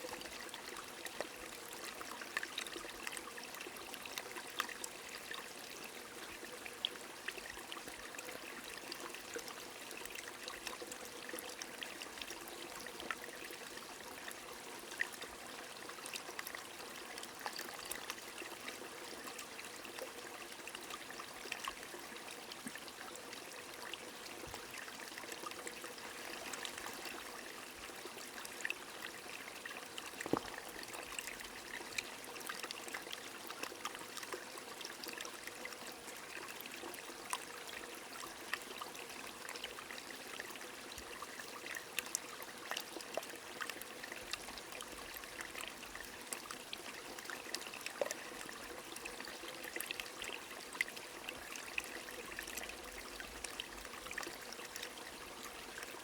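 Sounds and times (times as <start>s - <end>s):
stream trickling and burbling: 0.0s - 56.0s.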